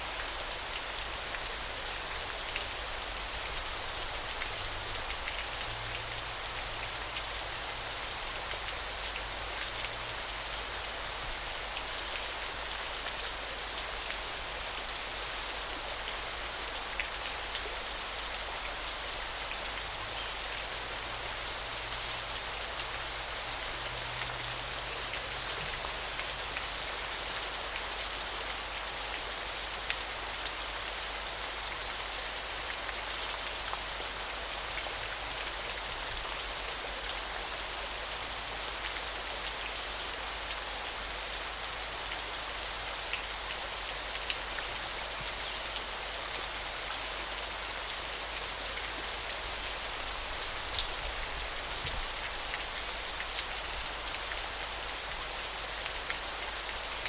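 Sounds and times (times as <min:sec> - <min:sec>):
flowing river water: 0:00.0 - 0:57.0.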